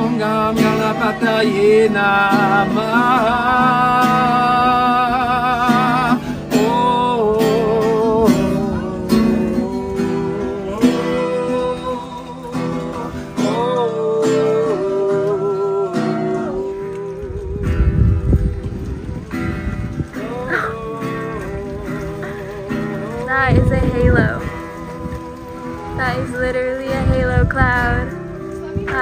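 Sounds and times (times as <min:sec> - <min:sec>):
acoustic guitar strumming: 0:00.0 - 0:29.0
man singing with vibrato: 0:00.0 - 0:29.0.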